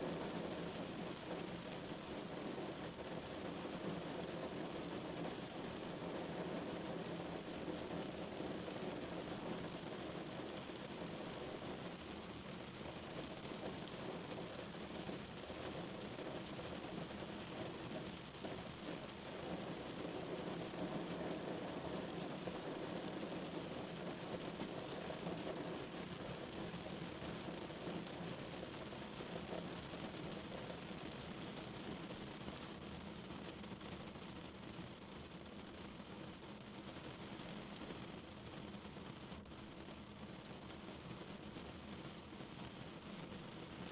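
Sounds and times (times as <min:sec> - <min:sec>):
rain pattering on a car: 0:00.0 - 0:43.9.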